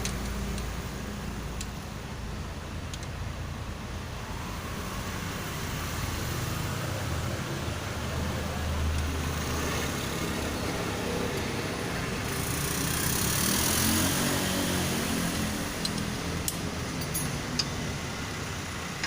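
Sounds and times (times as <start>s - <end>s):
vehicle engine low rumble: 0.0s - 19.0s.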